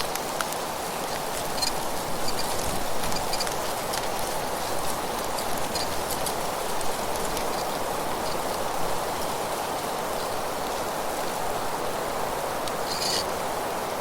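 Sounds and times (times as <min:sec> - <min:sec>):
wind rustling through leaves: 0:00.0 - 0:14.0.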